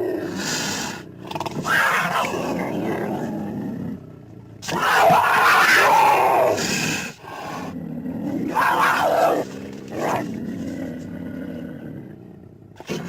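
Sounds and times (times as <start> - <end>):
big cat roaring and growling: 0.0 - 13.0.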